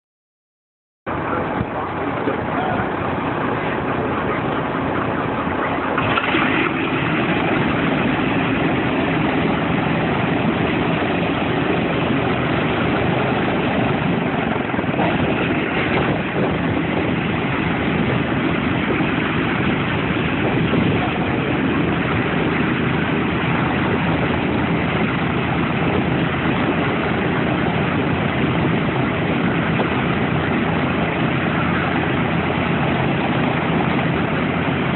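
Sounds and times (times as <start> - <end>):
radial aircraft engines running: 1.1 - 34.9.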